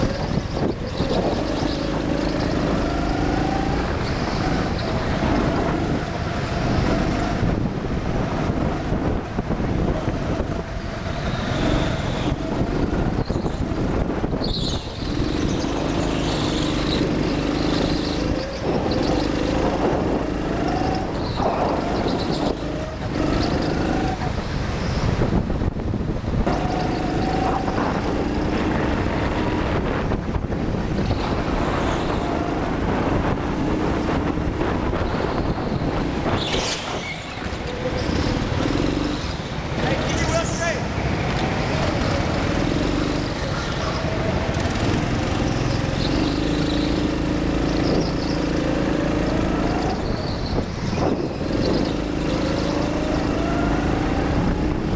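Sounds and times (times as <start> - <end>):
go-kart motor: 0.0 - 54.9
tyre and wind noise: 0.0 - 54.9.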